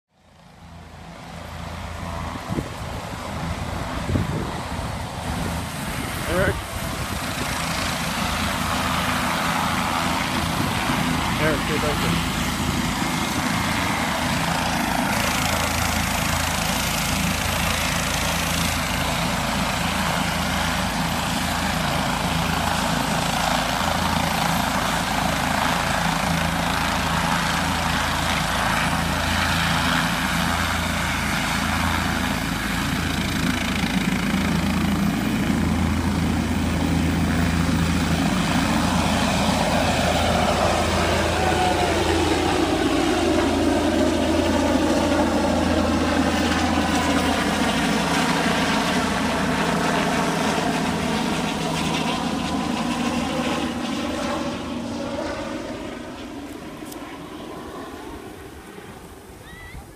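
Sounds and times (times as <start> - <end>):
helicopter engine whine: 0.1 - 59.9
helicopter rotor throb: 0.2 - 59.9.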